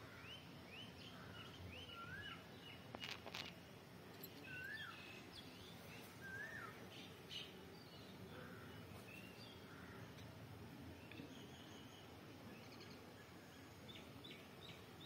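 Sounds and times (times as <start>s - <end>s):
faint birdsong chirps: 0.0s - 3.5s, 4.1s - 15.0s.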